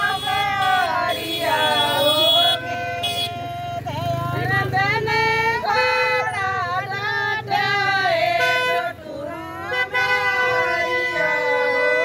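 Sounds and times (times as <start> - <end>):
steady flat tone: 0.0 - 12.0
women singing folk song: 0.0 - 12.0.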